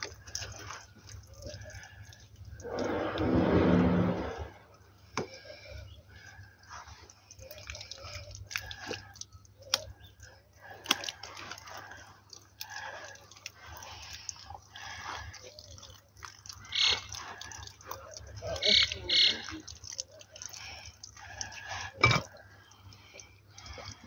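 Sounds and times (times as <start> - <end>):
water dripping and trickling from tap: 0.0 - 2.9, 5.2 - 24.0.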